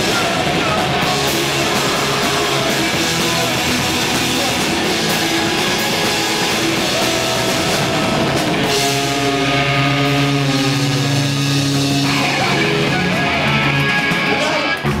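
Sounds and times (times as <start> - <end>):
bass: 0.0 - 15.0
drum kit: 0.0 - 15.0
electric guitars: 0.0 - 15.0.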